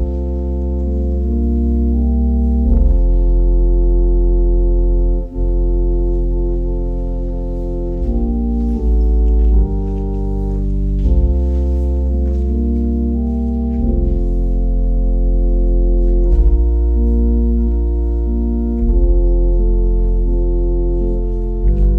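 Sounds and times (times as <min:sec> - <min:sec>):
organ playing sustained chords: 0:00.0 - 0:21.9.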